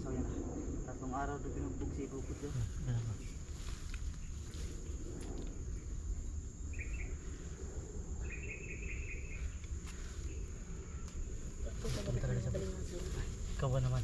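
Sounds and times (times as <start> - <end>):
insects droning: 0.0 - 14.0
low steady rumble: 0.0 - 14.0.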